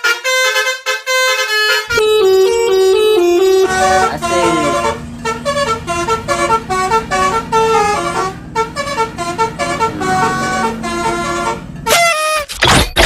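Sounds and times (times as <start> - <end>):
bus horn playing a melody: 0.0 - 12.5
loud horn blast: 0.0 - 12.5.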